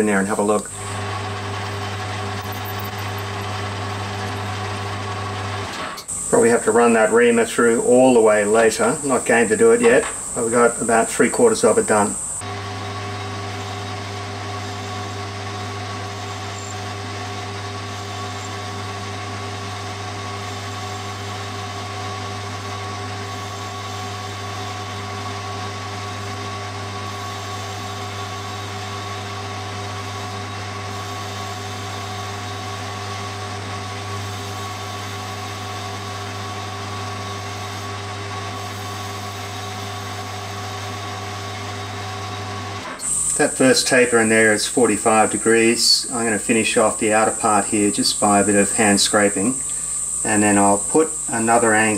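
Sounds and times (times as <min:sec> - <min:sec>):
metal lathe running: 0:00.0 - 0:51.9.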